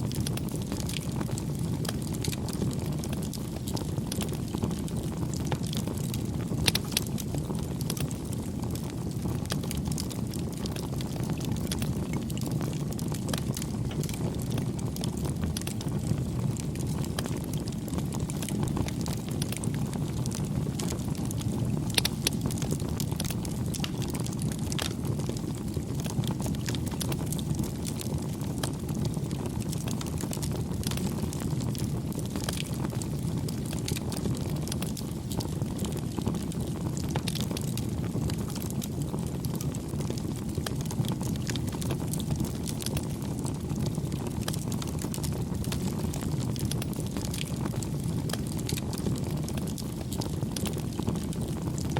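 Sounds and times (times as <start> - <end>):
fire crackling and popping: 0.0 - 51.9
low rumble of flames: 0.0 - 51.9.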